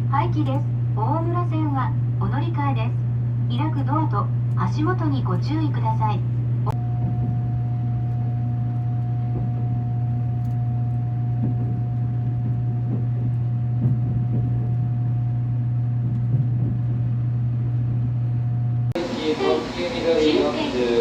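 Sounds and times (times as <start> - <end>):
faint rumbling: 0.0 - 21.0
train humming: 0.0 - 21.0.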